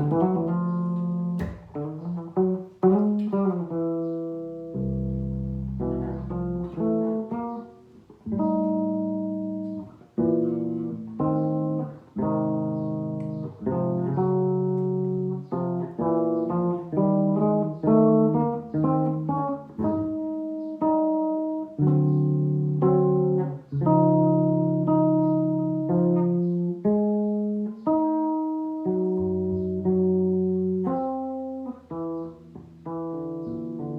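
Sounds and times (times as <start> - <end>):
solo bass playing jazz chords: 0.0 - 33.9.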